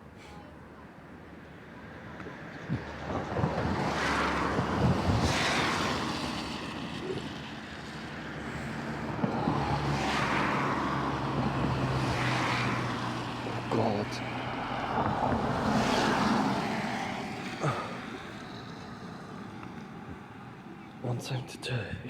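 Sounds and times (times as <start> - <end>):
cars passing on wet road: 2.3 - 21.0.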